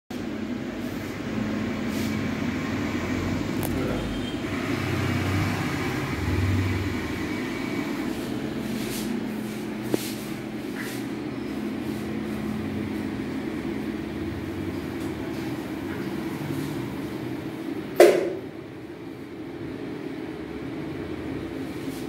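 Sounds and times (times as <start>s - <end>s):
mechanical hum and whir: 0.1s - 22.0s.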